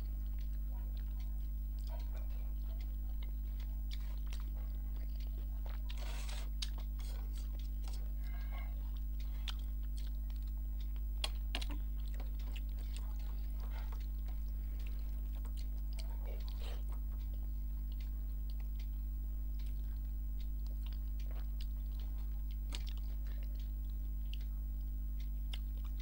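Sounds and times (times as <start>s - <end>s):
close chewing: 0.0s - 26.0s
low electrical hum: 0.0s - 26.0s.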